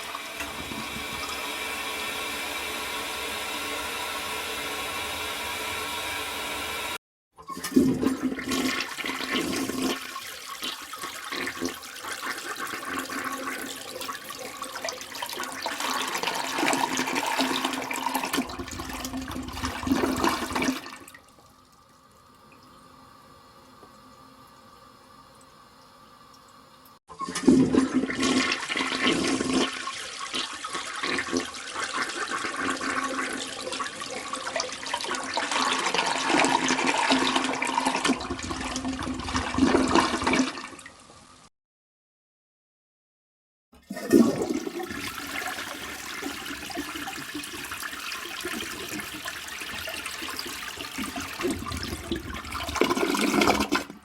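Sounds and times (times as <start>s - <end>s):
toilet flushing: 0.0s - 26.3s, 27.2s - 41.5s, 43.8s - 54.0s.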